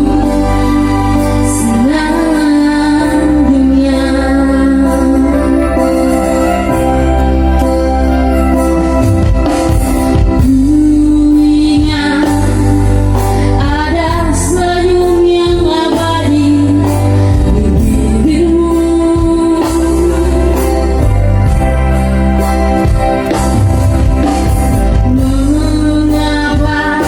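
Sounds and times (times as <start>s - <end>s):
person singing with vibrato: 0.0s - 9.0s, 10.1s - 23.0s, 24.8s - 27.0s
instrumental backing with heavy bass: 0.0s - 27.0s.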